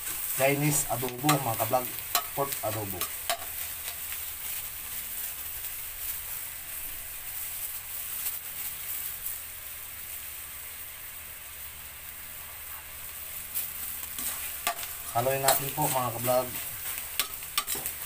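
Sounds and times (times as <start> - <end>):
garlic sizzling in sugar: 0.0 - 18.0.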